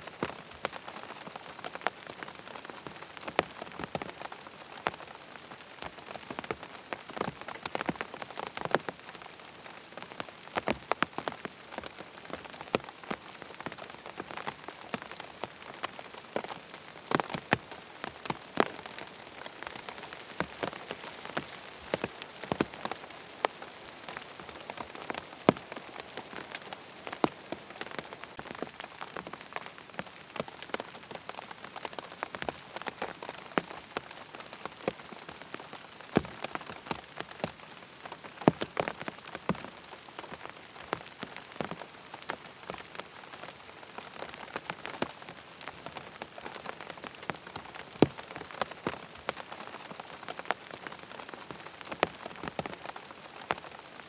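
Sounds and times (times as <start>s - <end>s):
steady rain hiss: 0.0s - 54.0s
raindrops ticking: 0.1s - 54.0s.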